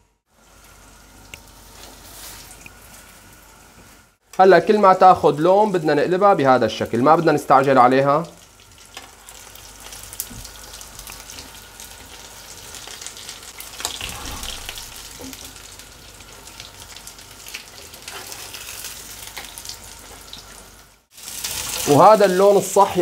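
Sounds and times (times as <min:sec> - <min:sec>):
pastries frying in oil: 0:00.2 - 0:23.0.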